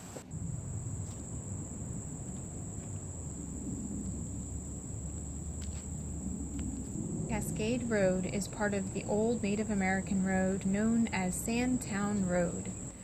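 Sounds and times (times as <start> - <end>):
insects chirring: 0.0 - 13.0
low continuous rumble: 0.0 - 13.0.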